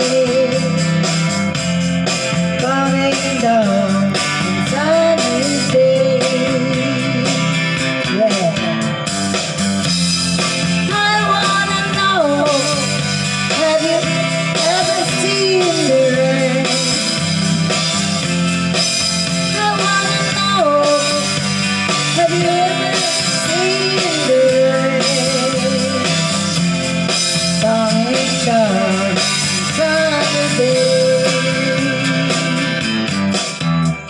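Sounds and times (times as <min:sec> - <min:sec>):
drums keeping a steady beat: 0:00.0 - 0:34.0
guitar chords: 0:00.0 - 0:34.0.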